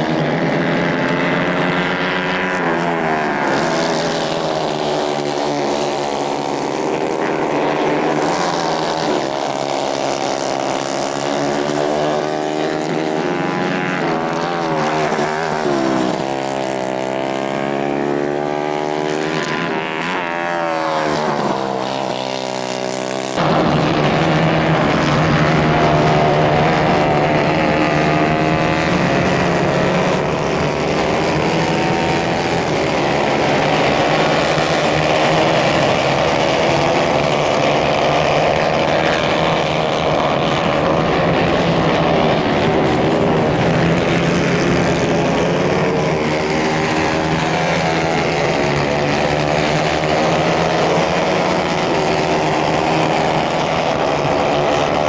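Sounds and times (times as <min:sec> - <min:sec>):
racing kart engines revving: 0:00.0 - 0:55.0.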